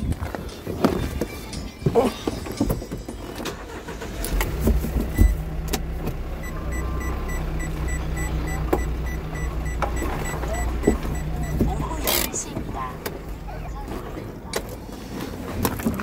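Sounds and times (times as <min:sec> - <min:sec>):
vehicle engine humming: 0:02.4 - 0:16.0.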